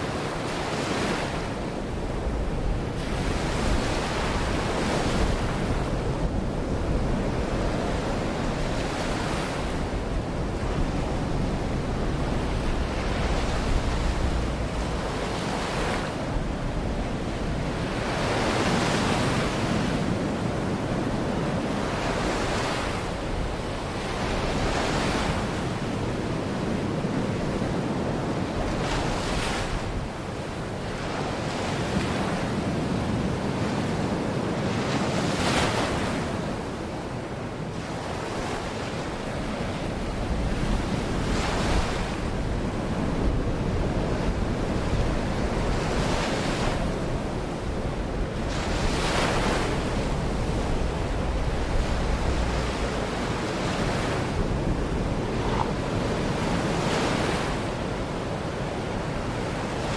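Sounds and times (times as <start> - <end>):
sea waves washing onto shore: 0.0 - 25.8, 37.7 - 59.9
low wind rumble on microphone: 0.0 - 59.9.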